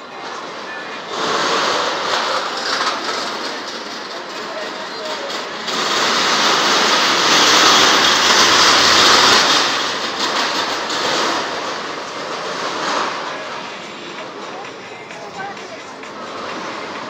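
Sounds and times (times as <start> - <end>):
roller coaster wheels on rails: 0.0 - 17.0.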